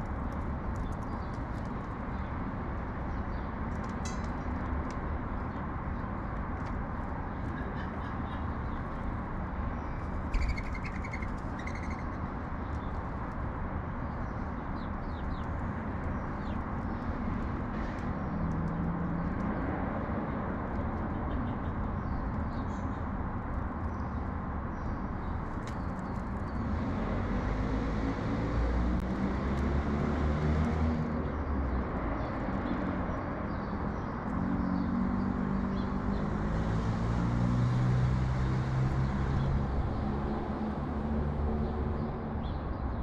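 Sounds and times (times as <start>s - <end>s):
city traffic hum: 0.0s - 43.0s
sparrows chirping: 0.1s - 43.0s.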